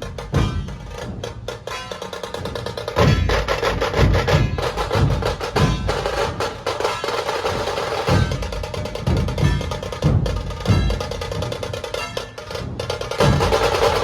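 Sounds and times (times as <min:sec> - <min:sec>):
booming bass drum beats: 0:00.0 - 0:14.0
fast drum roll strikes: 0:00.0 - 0:14.0.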